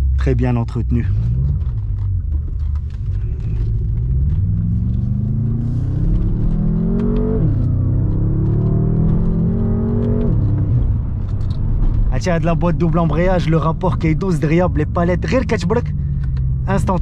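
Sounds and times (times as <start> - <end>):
car engine accelerating hard: 1.1 - 17.0.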